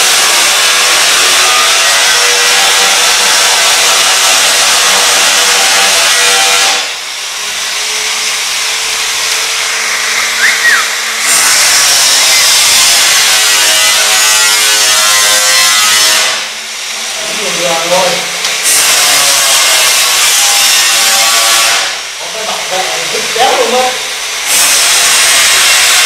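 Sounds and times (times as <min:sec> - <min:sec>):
loud steady machine noise: 0:00.0 - 0:26.0.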